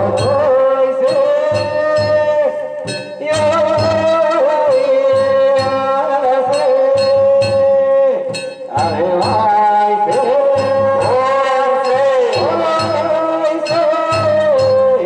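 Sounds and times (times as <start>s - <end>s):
clanging hand bells: 0.0s - 15.0s
person singing long held notes: 0.0s - 15.0s
taiko drum beat: 0.0s - 15.0s.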